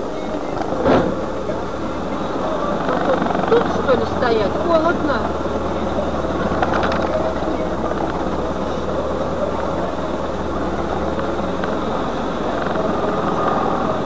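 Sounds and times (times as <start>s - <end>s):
car engine humming inside cabin: 0.0s - 14.0s.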